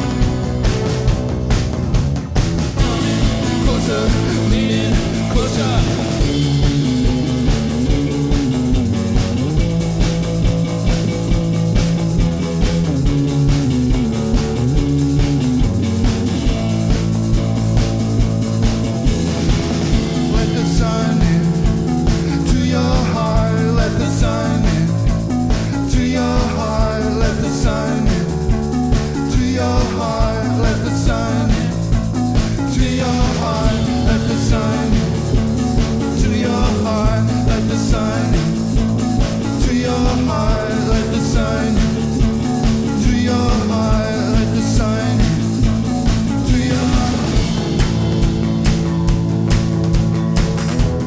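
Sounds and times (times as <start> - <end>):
rock band playing: 0.0 - 51.0.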